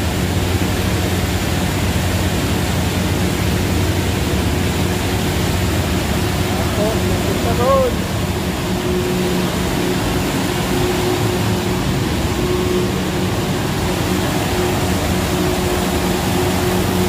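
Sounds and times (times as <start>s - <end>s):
factory machinery droning: 0.0s - 17.0s.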